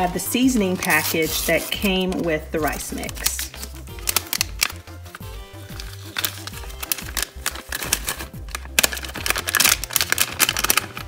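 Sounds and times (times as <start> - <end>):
background music with bass line: 0.0 - 11.0
seasoning packet rustling and clicking: 2.0 - 11.0.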